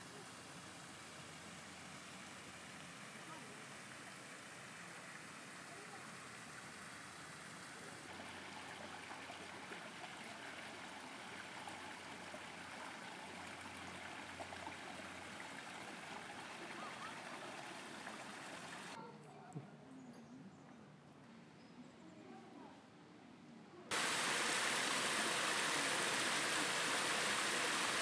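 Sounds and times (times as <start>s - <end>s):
running water: 0.0s - 19.0s, 23.9s - 28.0s.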